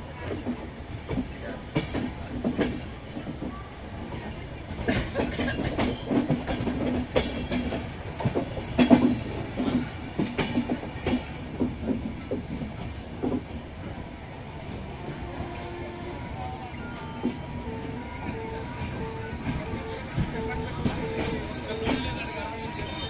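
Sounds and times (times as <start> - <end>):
train rumble: 0.0 - 23.0
train wheels clattering over joints: 0.2 - 23.0.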